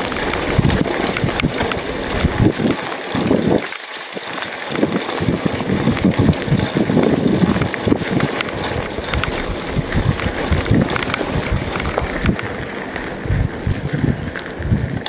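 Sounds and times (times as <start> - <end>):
bike clicks and rattles: 0.0 - 15.0
tyres rolling on dirt trail: 0.0 - 15.0
wind buffeting microphone: 0.0 - 15.0.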